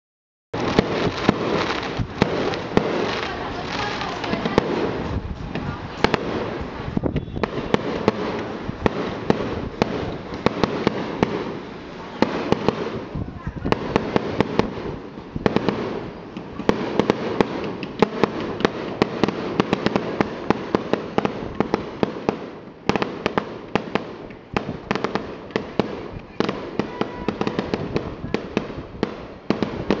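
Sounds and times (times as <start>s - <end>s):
fireworks bangs and crackles: 0.6s - 30.0s.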